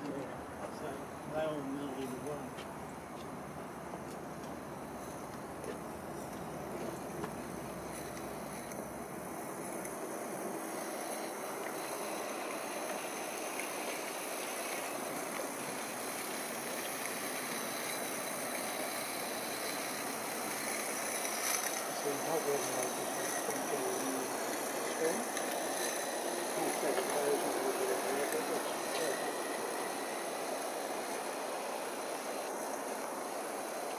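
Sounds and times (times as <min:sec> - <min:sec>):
steam tram hissing: 0:00.0 - 0:33.9.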